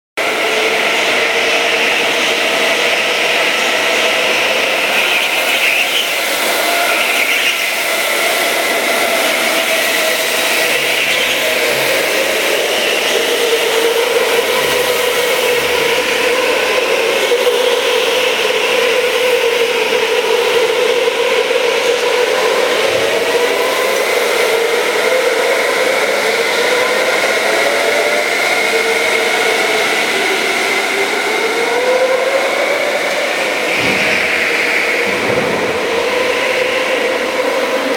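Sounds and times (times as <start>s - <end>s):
go-kart engines whining: 0.2s - 37.9s.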